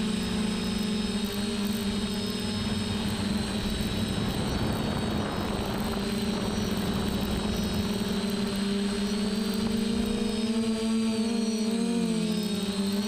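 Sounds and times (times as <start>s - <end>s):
model aircraft motor hum: 0.0s - 13.0s.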